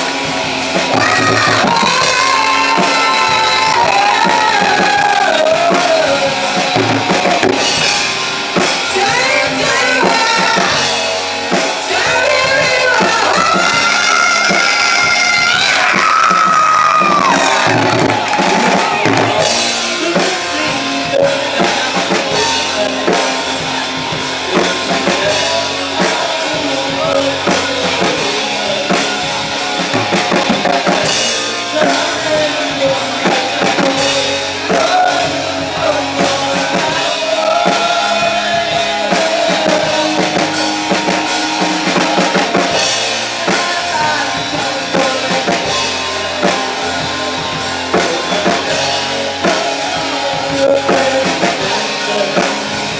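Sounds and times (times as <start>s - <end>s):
drum kit beat: 0.0s - 52.9s
rock band music: 0.0s - 52.9s.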